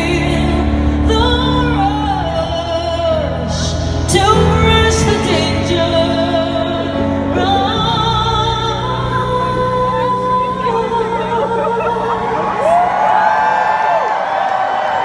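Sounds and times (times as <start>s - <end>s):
woman singing a slow ballad: 0.0s - 13.1s
piano accompaniment: 0.0s - 14.0s.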